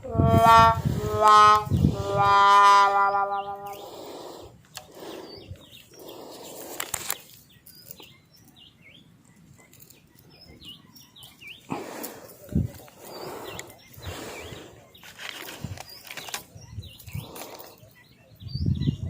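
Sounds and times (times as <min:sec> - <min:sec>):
small birds chirping: 0:03.0 - 0:19.0.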